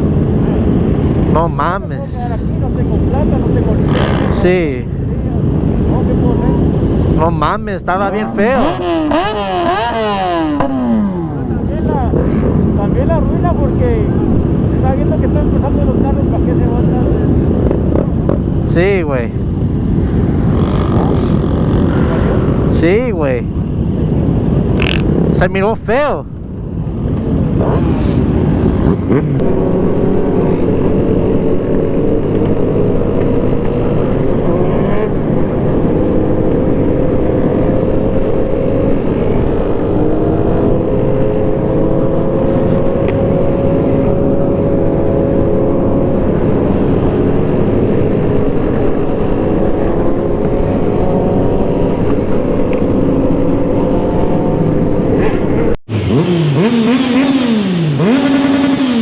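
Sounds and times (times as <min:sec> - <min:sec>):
wind rush: 0:00.0 - 0:55.8
motorcycle engine: 0:08.0 - 0:59.0.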